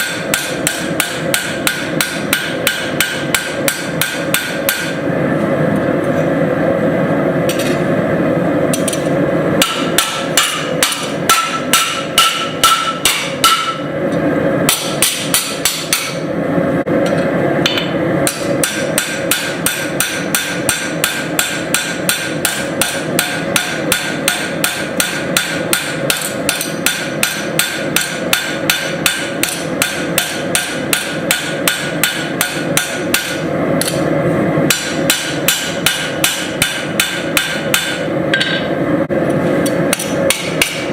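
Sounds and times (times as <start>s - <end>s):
hammer striking steel on anvil: 0.0s - 5.0s, 7.5s - 7.8s, 8.7s - 13.9s, 14.7s - 16.3s, 17.0s - 34.0s, 34.7s - 38.7s, 39.9s - 40.9s.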